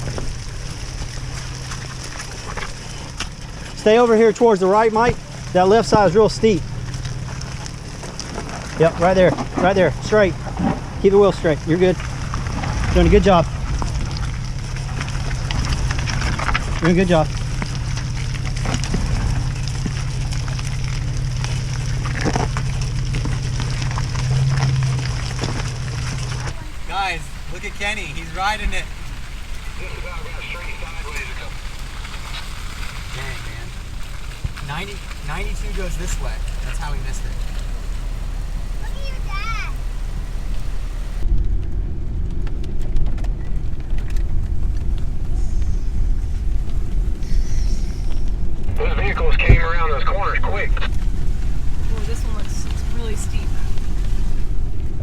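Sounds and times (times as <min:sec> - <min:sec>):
engine running low: 0:00.0 - 0:55.0
tyres crackling over rocks: 0:00.0 - 0:55.0.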